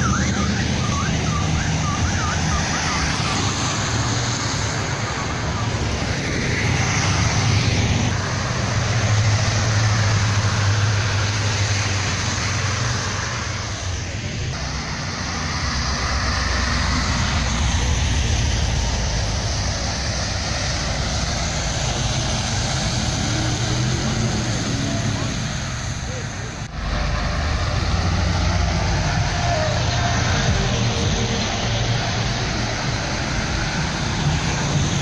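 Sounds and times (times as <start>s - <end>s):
car engines rumbling past: 0.0s - 35.0s.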